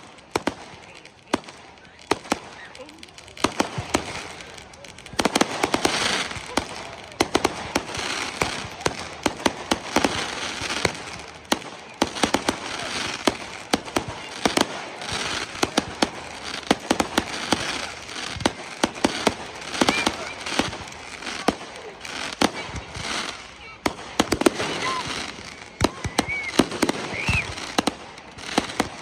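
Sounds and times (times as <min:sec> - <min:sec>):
fireworks bangs and cracks: 0:00.0 - 0:29.0
fireworks hiss: 0:02.1 - 0:29.0.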